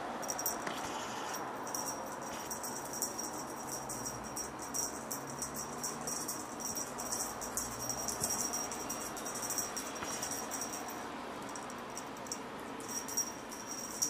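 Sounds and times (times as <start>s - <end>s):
steady high-pitched whine: 0.0s - 14.0s
feather wand rattling: 1.3s - 11.0s, 11.6s - 14.0s.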